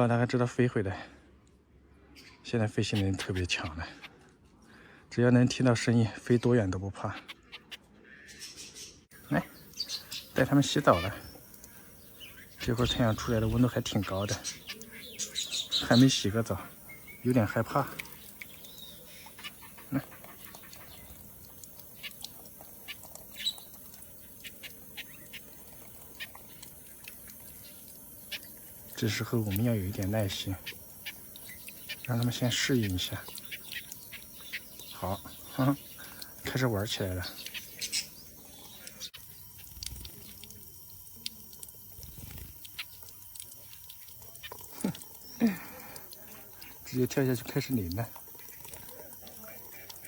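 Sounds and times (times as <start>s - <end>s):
songbirds chirping and ticking: 0.0s - 50.0s
water drips and splashes: 9.1s - 50.0s.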